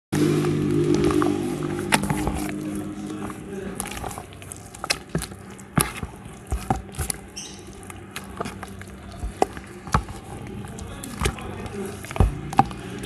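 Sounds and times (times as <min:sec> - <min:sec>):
dough kneaded by hand: 0:00.2 - 0:13.0.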